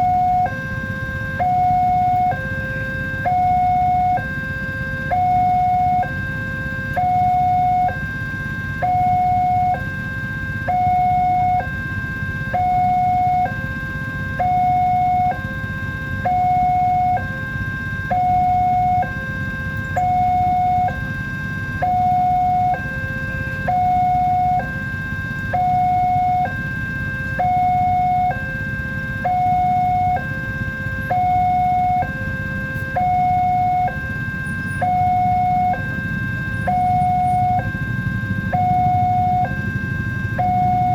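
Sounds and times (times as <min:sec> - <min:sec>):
two-tone level crossing alarm: 0:00.0 - 0:40.9.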